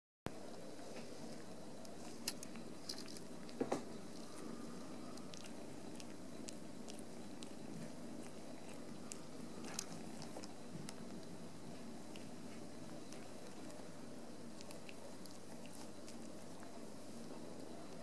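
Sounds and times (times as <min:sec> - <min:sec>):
kittens licking: 0:00.4 - 0:18.0.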